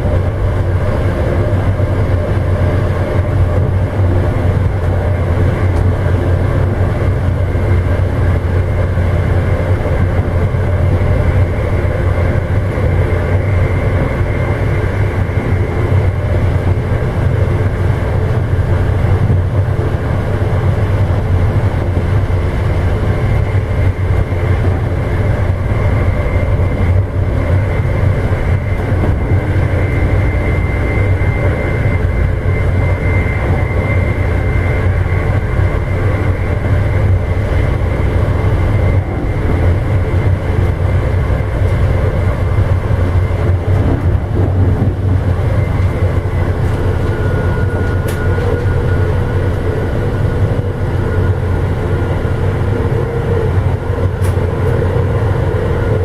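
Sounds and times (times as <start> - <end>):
faint whining tones: 0.0 - 56.0
train wheels rumbling on rail: 0.0 - 56.0.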